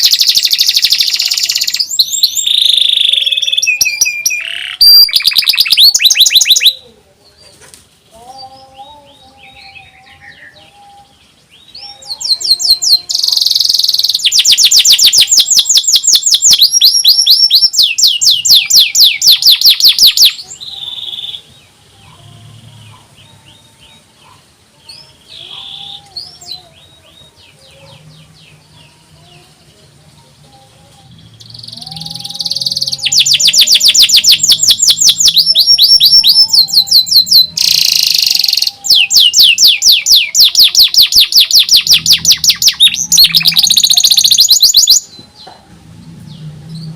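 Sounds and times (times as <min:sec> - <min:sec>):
canary trilling: 0:00.0 - 0:06.8, 0:08.7 - 0:29.5, 0:31.2 - 0:45.5
canary chirps and calls: 0:00.0 - 0:45.5.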